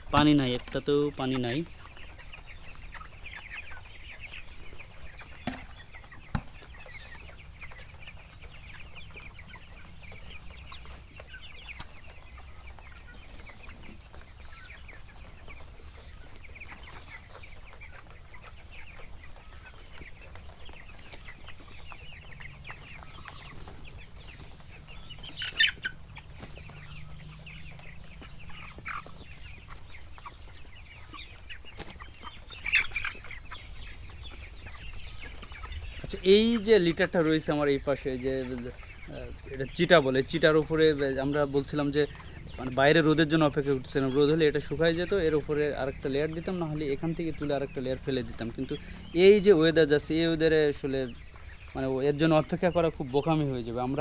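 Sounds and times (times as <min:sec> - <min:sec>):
chickens clucking and peeping: 0:00.0 - 0:54.0.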